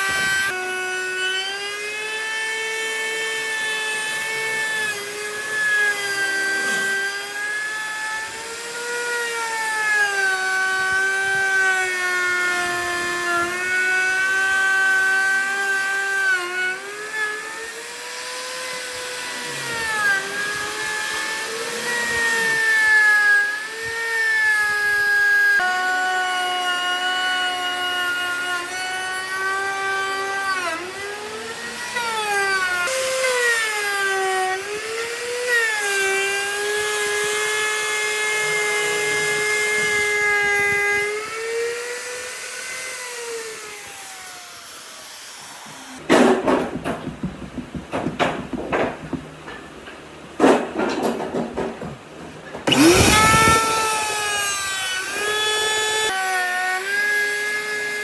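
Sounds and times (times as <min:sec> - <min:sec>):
power tool motor whining into wood: 0:00.0 - 0:49.7, 0:50.6 - 0:58.0.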